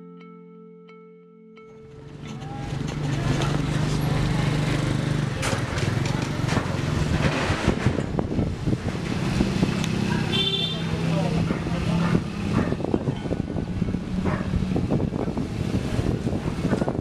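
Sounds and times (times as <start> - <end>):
vehicle motor drone: 1.9 - 17.0.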